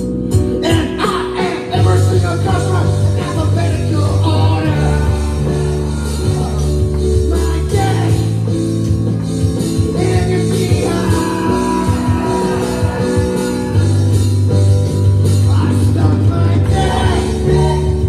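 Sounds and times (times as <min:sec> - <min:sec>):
electric bass low notes: 0:00.0 - 0:18.0
rock band playing live: 0:00.0 - 0:18.0
man singing: 0:00.5 - 0:08.7, 0:09.6 - 0:18.0.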